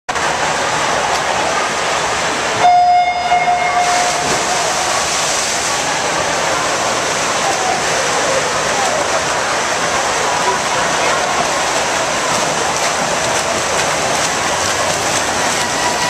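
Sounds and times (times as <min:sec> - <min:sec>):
echoing hubbub of indoor pool: 0:00.1 - 0:16.0
swimmers splashing: 0:00.2 - 0:16.0.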